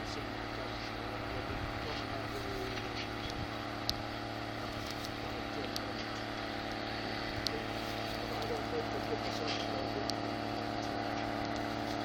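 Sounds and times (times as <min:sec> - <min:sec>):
farm machine engine droning: 0:00.0 - 0:12.0.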